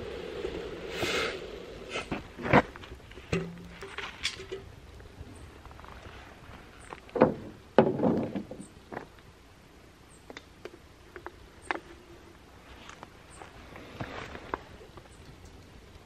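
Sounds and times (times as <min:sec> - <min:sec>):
wood fire crackling: 0:00.0 - 0:07.7, 0:08.8 - 0:16.0
rustle: 0:00.0 - 0:16.0.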